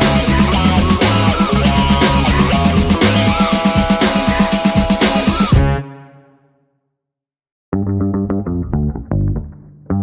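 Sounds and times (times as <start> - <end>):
plucked bass and guitar music: 0.0 - 5.8, 7.7 - 10.0.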